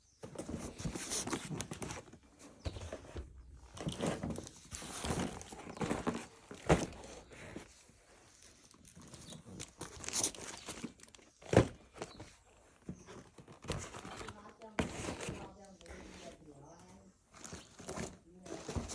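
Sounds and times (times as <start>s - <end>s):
toy packaging rustling: 3.0s - 18.9s.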